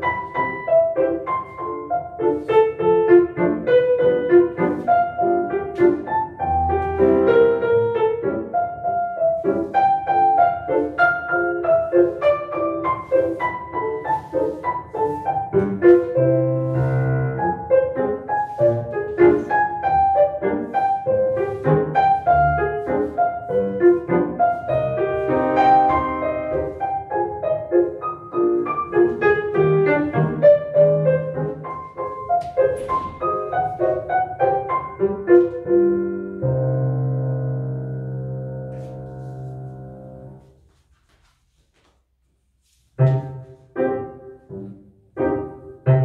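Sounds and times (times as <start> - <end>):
solo classical piano: 0.0 - 46.0.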